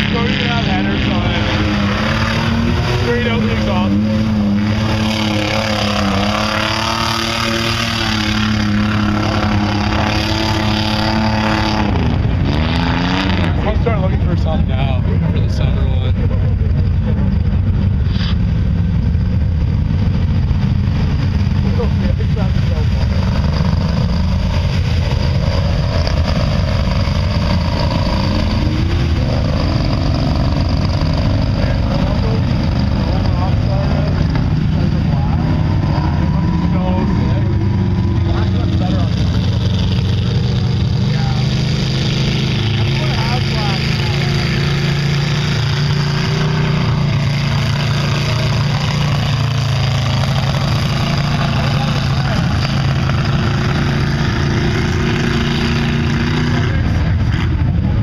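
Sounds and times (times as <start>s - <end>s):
wheels churning mud: 0.0s - 14.8s, 20.7s - 58.0s
car engine running hard: 0.0s - 58.0s.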